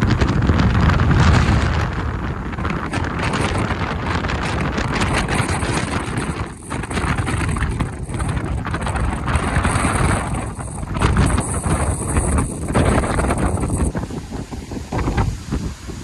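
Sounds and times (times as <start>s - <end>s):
wind gusting across microphone: 0.0s - 16.0s.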